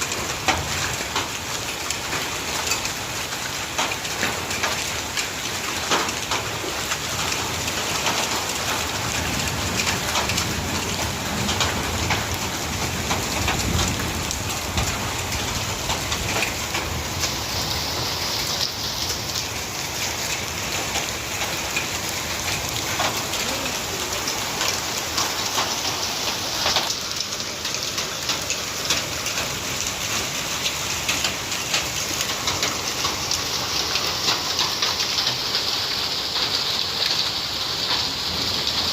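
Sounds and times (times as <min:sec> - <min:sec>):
hail pattering: 0:00.0 - 0:38.9
heavy rain pouring: 0:00.0 - 0:38.9.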